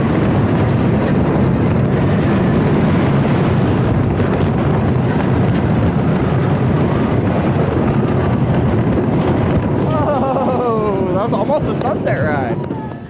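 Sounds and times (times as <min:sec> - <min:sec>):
roller coaster rumbling on track: 0:00.0 - 0:13.0
wind rushing over microphone: 0:00.0 - 0:13.0.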